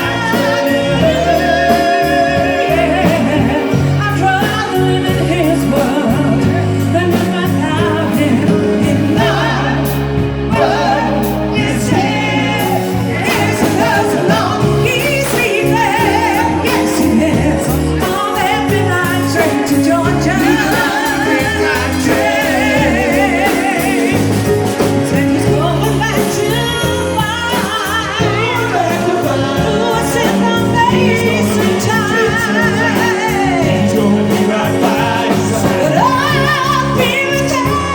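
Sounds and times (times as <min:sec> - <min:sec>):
instrumental backing music: 0:00.0 - 0:37.9
person singing with vibrato: 0:00.0 - 0:37.9.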